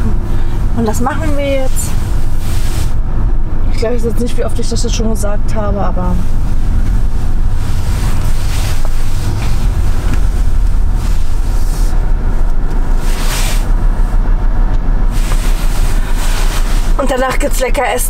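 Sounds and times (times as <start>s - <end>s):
car interior road rumble: 0.0s - 18.0s.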